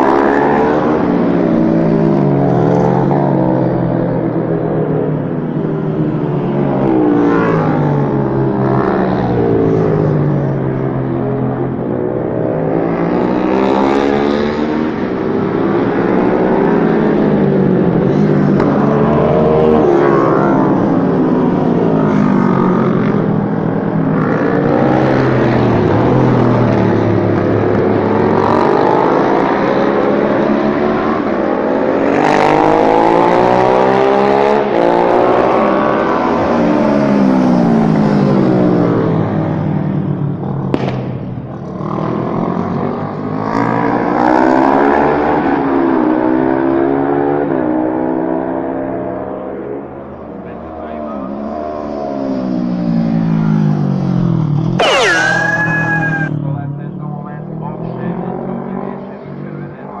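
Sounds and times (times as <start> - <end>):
motorcycle engines revving: 0.0 - 60.0.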